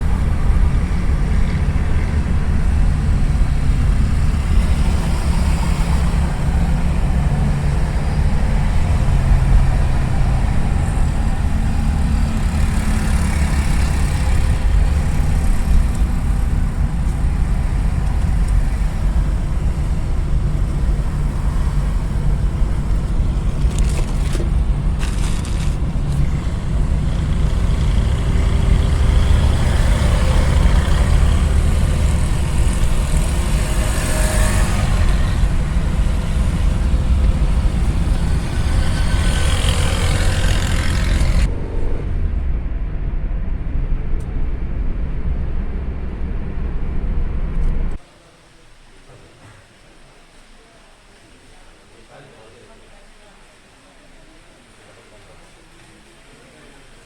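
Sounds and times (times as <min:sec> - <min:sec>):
car engine and road rumble: 0:00.0 - 0:48.1.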